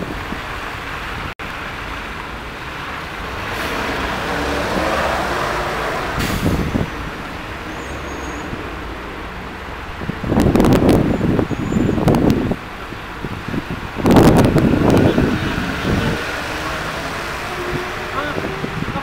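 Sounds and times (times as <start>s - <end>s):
vehicle passing: 1.6s - 19.0s.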